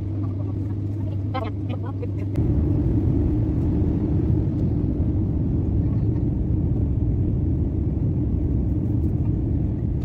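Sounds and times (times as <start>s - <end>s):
jet engine roar inside cabin: 0.0s - 10.0s.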